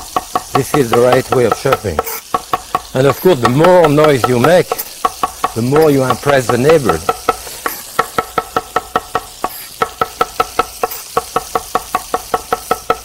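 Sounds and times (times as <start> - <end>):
knife chopping on wooden board: 0.0 - 13.0.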